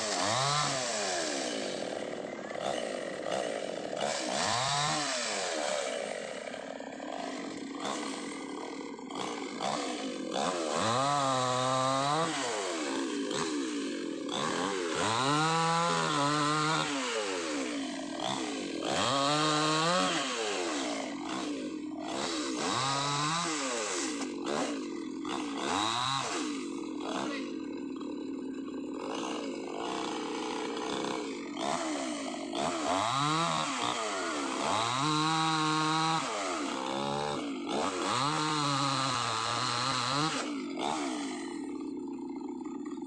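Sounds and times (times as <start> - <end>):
chainsaw revving and idling: 0.0 - 43.0.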